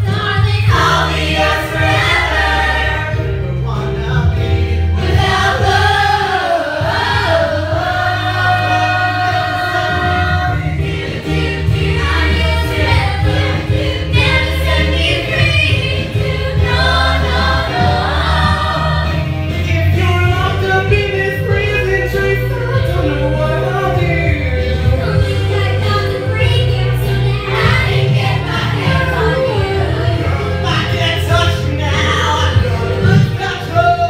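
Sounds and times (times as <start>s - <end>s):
accompaniment with steady bass line: 0.0s - 34.0s
stage performers singing: 0.0s - 34.0s.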